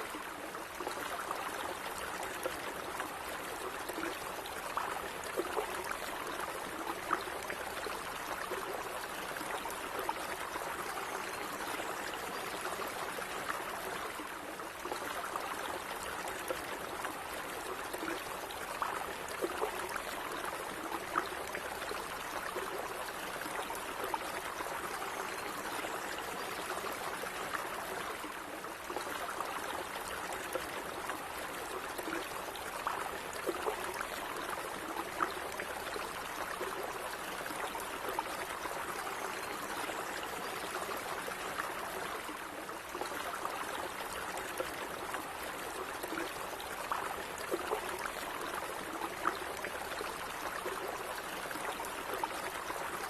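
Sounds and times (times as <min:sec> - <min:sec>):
shallow stream running: 0:00.0 - 0:53.0
water trickles and splashes: 0:00.0 - 0:53.0.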